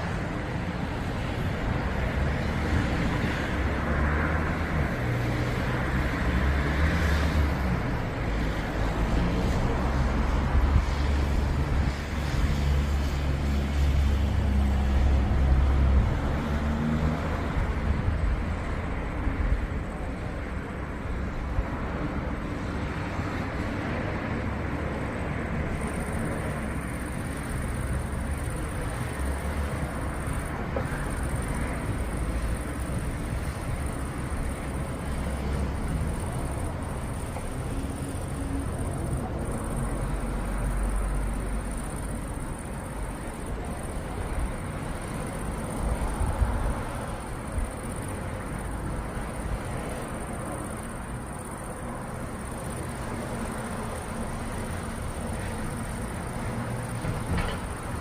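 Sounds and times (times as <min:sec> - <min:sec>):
storm noise hiss: 0:00.0 - 0:58.0.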